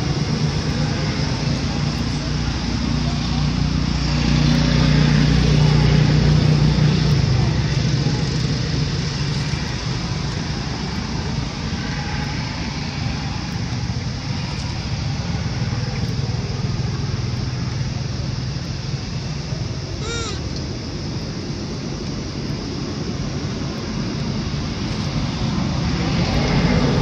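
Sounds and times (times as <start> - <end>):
vehicle engine droning: 0.0 - 27.0.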